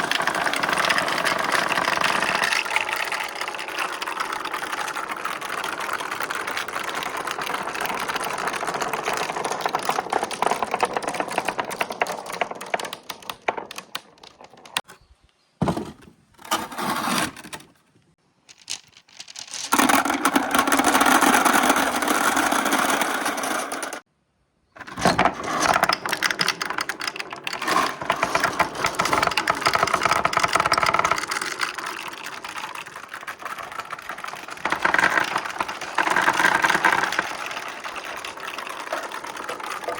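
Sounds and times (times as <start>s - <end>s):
marbles clattering on plastic tracks: 0.0s - 14.9s, 18.4s - 24.0s, 24.8s - 39.9s.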